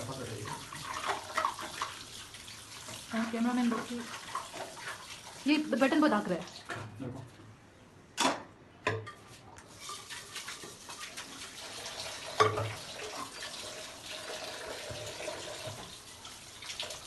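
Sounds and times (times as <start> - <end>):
tap water running: 0.0 - 7.0, 9.6 - 17.0.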